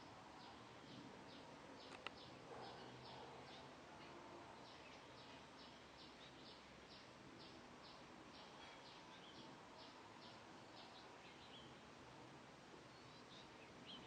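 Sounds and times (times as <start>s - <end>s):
soft background hiss: 0.0s - 14.0s.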